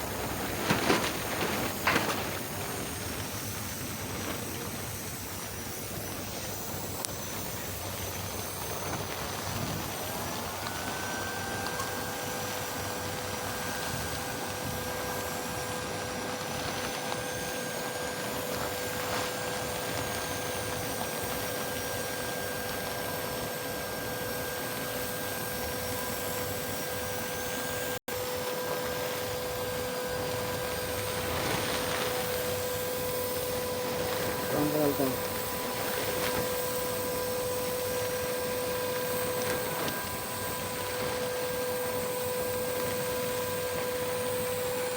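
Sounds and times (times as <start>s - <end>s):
welding arc hissing and whining: 0.0s - 44.9s.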